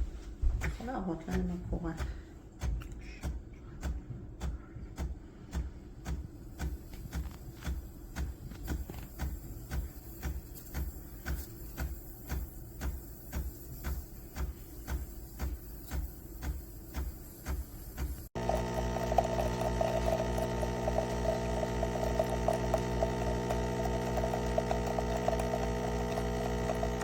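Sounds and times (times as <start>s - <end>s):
espresso machine pump pulsing: 4.5s - 27.0s.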